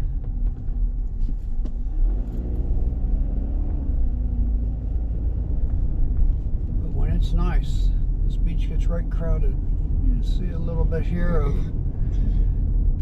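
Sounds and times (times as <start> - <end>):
car engine and tyres rumbling: 0.0 - 13.0
faint engine hum: 0.0 - 13.0.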